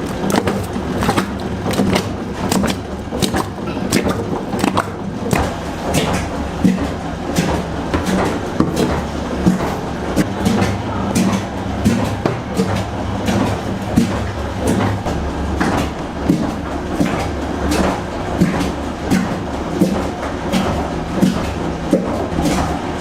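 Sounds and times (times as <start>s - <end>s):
low motor hum: 0.0s - 23.0s
machine pounding dough: 0.0s - 23.0s.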